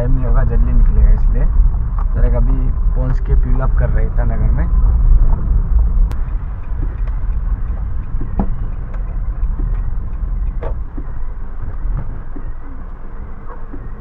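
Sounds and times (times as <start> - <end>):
engine and road rumble: 0.0 - 14.0
faint rain taps: 0.0 - 14.0.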